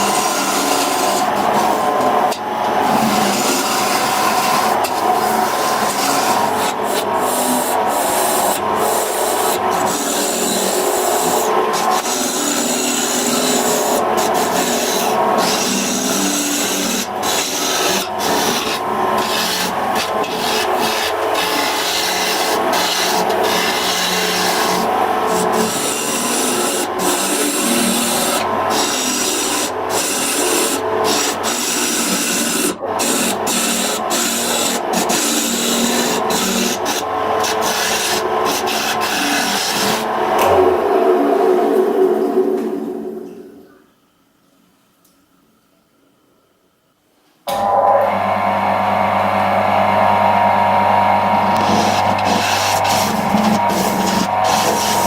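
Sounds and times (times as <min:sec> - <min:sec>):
power tool scraping wood: 0:00.0 - 0:40.8, 0:50.7 - 0:55.0.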